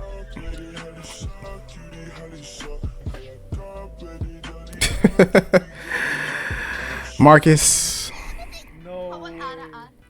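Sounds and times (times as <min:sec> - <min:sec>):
hip hop music: 0:00.0 - 0:09.9.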